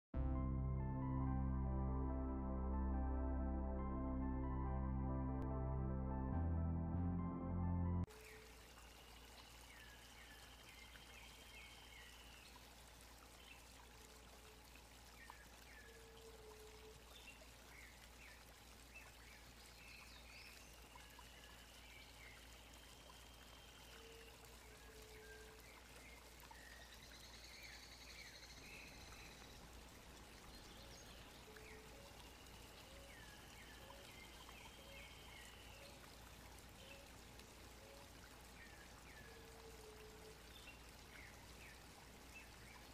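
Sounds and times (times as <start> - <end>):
faint steady hiss: 8.0 - 42.9.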